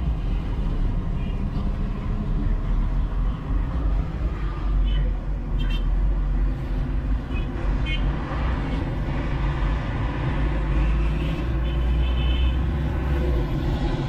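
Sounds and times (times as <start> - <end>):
truck engine and tyres rumbling: 0.0 - 14.0.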